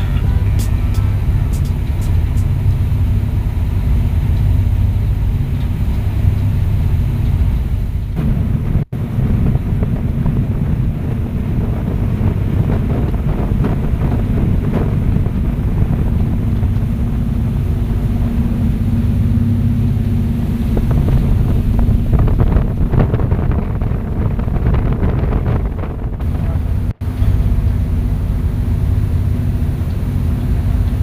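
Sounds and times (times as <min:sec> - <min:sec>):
boat engines droning: 0:00.0 - 0:31.0
wind buffeting microphone: 0:00.0 - 0:31.0.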